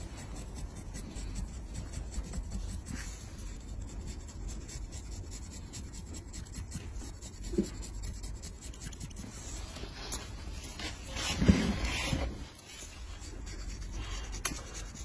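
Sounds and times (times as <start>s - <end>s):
blade scraping skin: 0.0s - 15.0s.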